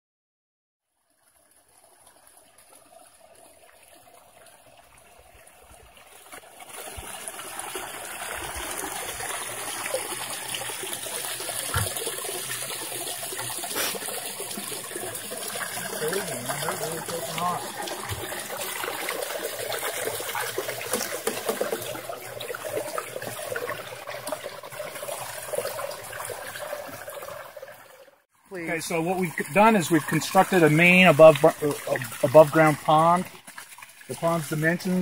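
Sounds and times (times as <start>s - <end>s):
water trickling from a pipe: 0.8s - 35.0s.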